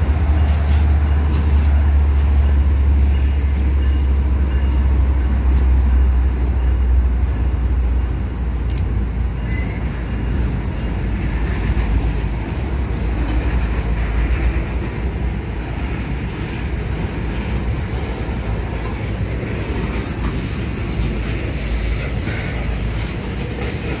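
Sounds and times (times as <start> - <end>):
diesel locomotive rumble: 0.0 - 24.0
train cars rolling over rails: 0.0 - 24.0.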